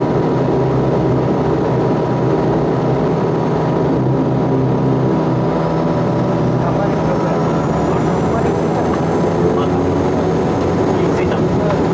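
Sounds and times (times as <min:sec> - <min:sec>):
aircraft engines droning: 0:00.0 - 0:11.9.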